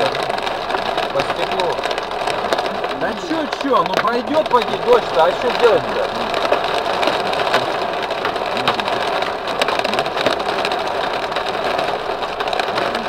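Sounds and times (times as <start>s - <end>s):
hail and rain on windshield: 0.0s - 13.0s
hailstones ticking on glass: 0.0s - 13.0s.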